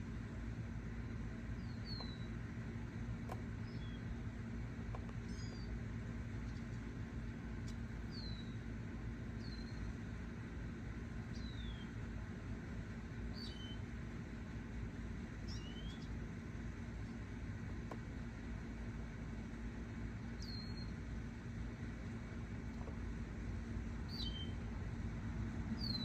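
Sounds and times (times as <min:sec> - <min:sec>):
songbirds chirping: 0:00.0 - 0:18.5, 0:20.2 - 0:21.0, 0:22.0 - 0:26.0
low hum and rumble: 0:00.0 - 0:26.0.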